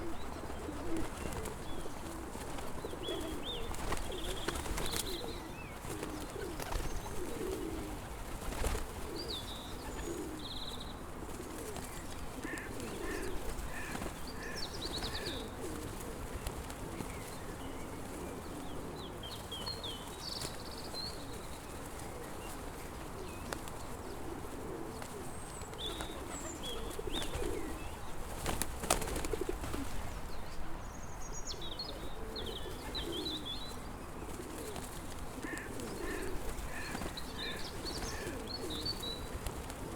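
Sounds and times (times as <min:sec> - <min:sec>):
small birds chirping: 0:00.0 - 0:07.8, 0:08.4 - 0:24.2, 0:25.0 - 0:39.9
pigeons cooing: 0:00.0 - 0:30.8, 0:31.9 - 0:39.9.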